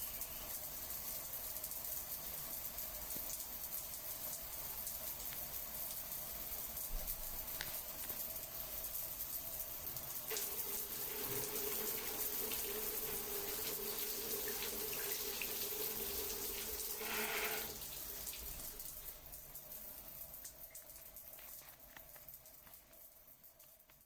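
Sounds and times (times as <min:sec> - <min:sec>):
water running: 0:00.0 - 0:24.0.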